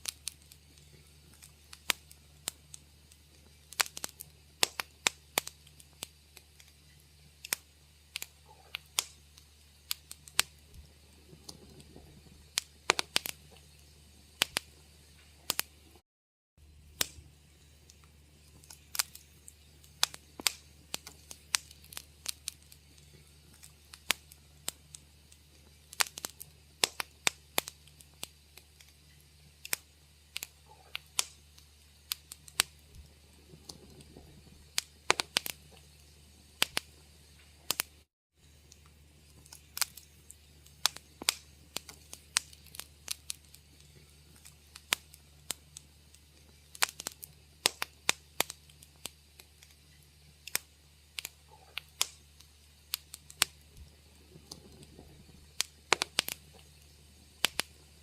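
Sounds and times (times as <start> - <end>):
faint low hum: 0.0 - 16.0, 16.6 - 58.0
wood fire crackling: 0.0 - 16.0, 16.6 - 58.0.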